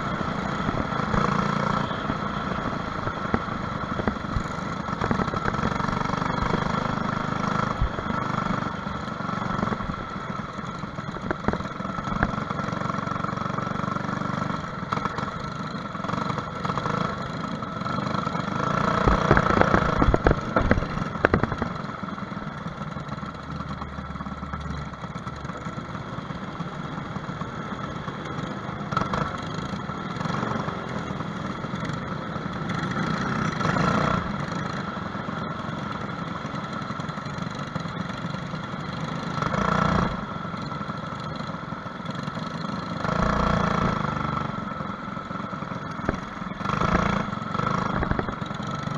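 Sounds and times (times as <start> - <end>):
kart engine idling: 0.0 - 48.9.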